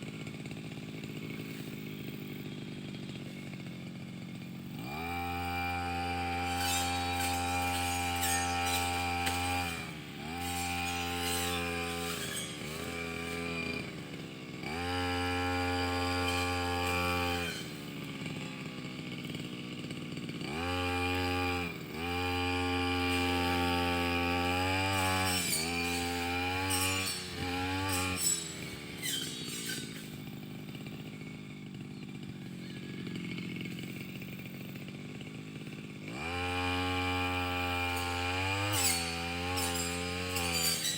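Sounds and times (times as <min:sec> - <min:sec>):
brush cutter engine revving: 0:00.0 - 0:40.9.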